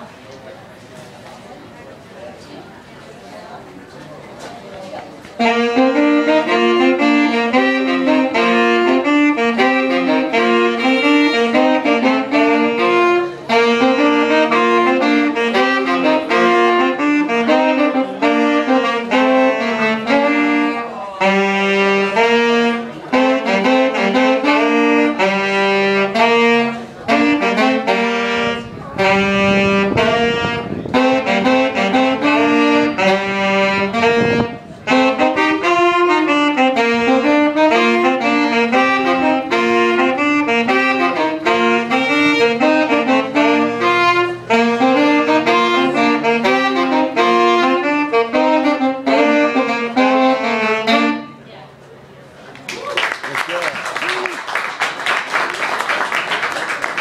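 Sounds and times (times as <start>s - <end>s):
saxophones playing jazz duet: 5.2s - 52.1s.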